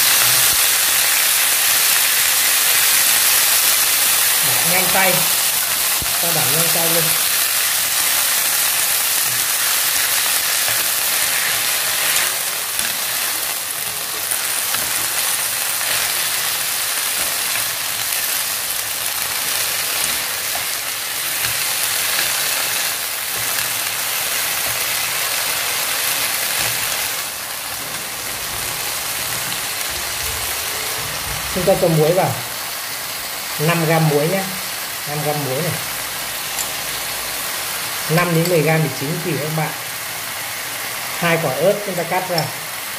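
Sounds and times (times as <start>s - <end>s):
leaves sizzling in hot oil: 0.0s - 42.9s.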